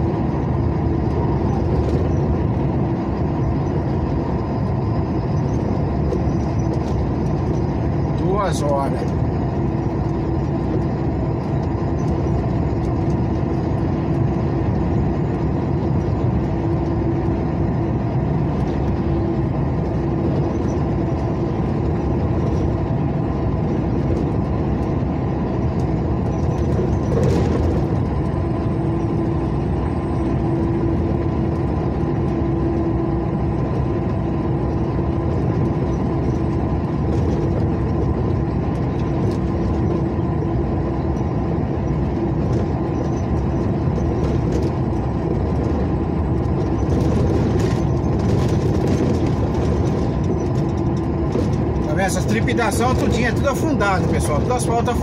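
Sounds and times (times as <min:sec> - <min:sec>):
vehicle engine and tyre rumble: 0:00.0 - 0:55.0.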